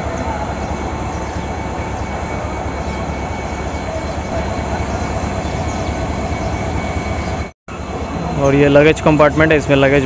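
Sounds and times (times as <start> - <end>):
train idling low rumble: 0.0 - 10.0.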